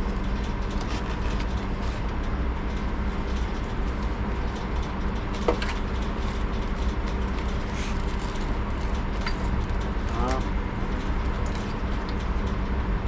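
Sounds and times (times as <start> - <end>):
low rumble with hum: 0.0 - 13.0.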